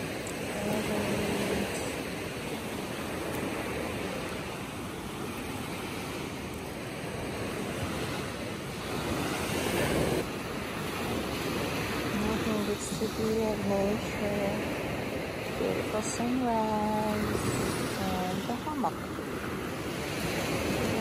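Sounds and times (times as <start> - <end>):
surf breaking on beach: 0.0 - 21.0
wind on microphone: 0.0 - 21.0.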